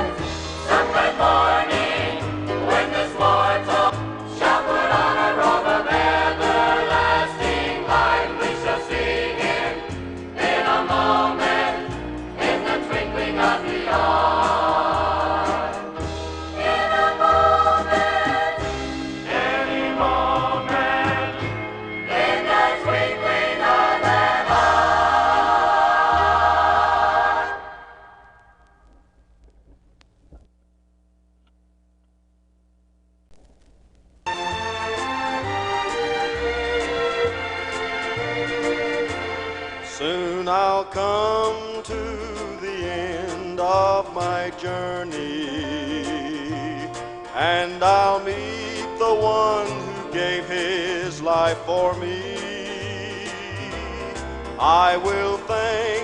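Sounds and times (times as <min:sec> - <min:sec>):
choir singing gospel music: 0:00.0 - 0:28.3, 0:34.4 - 0:56.0.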